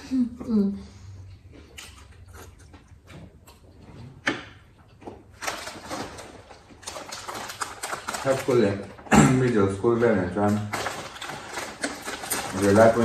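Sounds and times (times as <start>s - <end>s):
noodles slurped and chewed: 1.1s - 13.0s.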